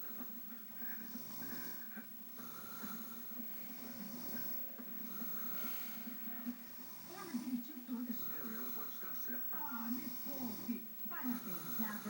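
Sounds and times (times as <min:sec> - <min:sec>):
person snoring: 0:00.0 - 0:12.0.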